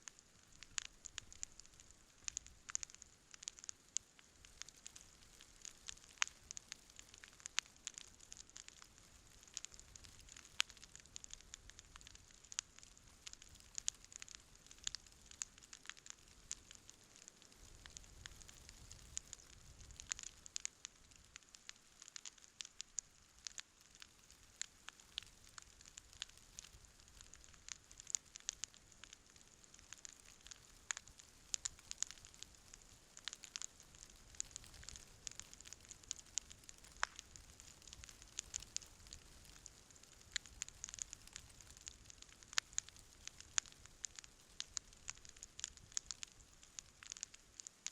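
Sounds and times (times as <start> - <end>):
campfire crackling and popping: 0.0 - 47.9
faint hiss: 0.0 - 47.9.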